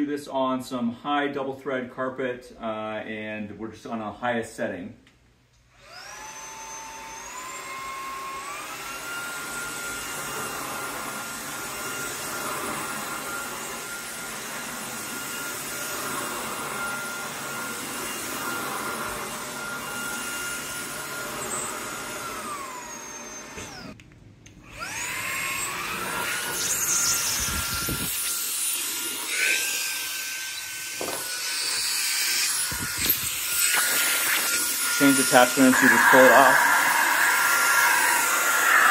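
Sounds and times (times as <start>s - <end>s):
stick vacuum motor whining: 5.8s - 38.9s.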